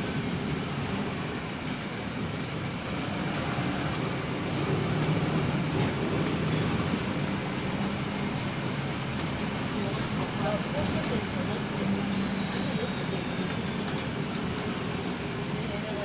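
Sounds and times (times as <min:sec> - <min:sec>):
bus engine and road hum: 0:00.0 - 0:16.0.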